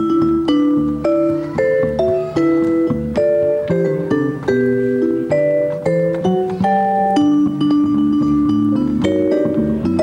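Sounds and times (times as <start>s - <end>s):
double bass line: 0.0s - 10.0s
vibraphone chords ringing: 0.0s - 10.0s.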